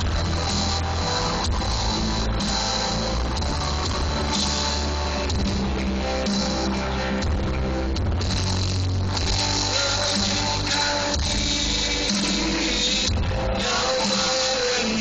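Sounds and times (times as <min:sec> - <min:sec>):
bass and drums: 0:00.0 - 0:15.0.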